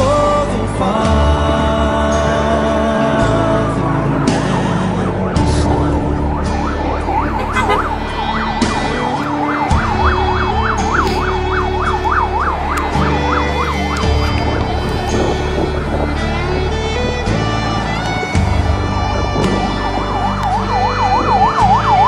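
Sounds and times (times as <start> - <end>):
song with instrumental backing: 0.0 - 22.0
emergency siren yelping: 3.0 - 22.0.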